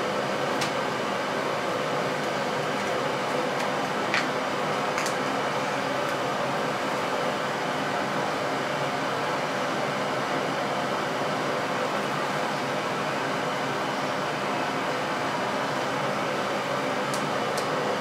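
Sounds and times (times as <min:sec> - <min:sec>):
exhaust fan whirring: 0:00.0 - 0:18.0.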